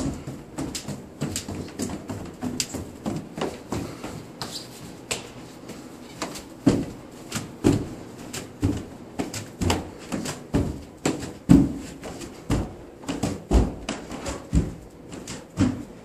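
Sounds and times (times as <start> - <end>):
footsteps on stairs echoing: 0.0 - 16.0.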